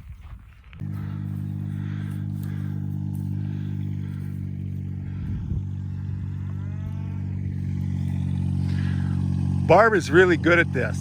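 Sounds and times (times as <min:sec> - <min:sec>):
vehicle engine running: 0:00.7 - 0:11.0.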